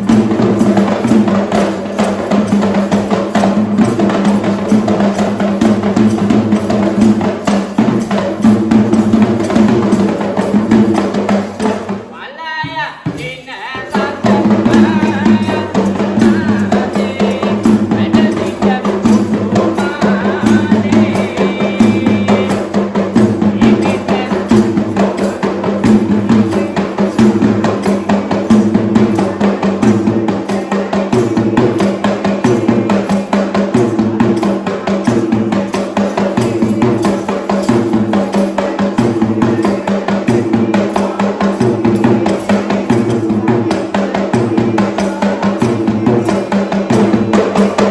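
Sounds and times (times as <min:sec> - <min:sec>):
fast traditional drumming: 0:00.0 - 0:47.9.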